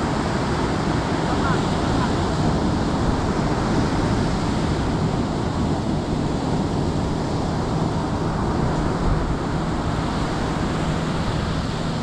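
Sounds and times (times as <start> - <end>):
ocean surf breaking: 0.0 - 12.0
wind noise on microphone: 0.0 - 12.0.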